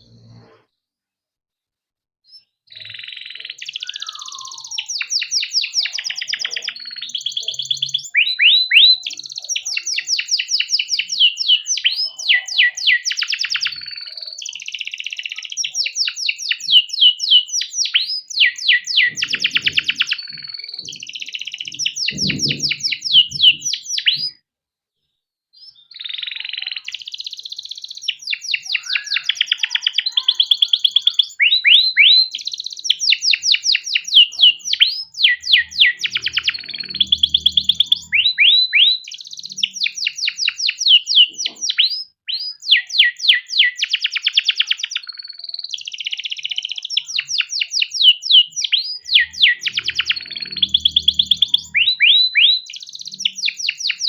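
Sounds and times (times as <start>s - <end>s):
canary singing trills: 2.2s - 24.4s, 25.6s - 54.0s.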